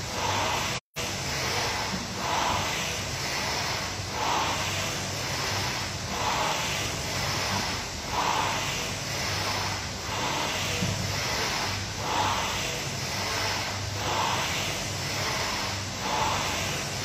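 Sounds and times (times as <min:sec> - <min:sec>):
rowing machine whooshing: 0:00.0 - 0:17.0.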